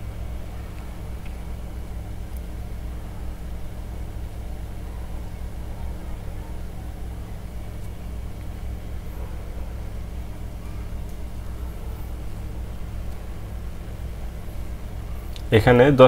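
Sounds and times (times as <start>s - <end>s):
low hum with faint hiss: 0.0s - 16.0s.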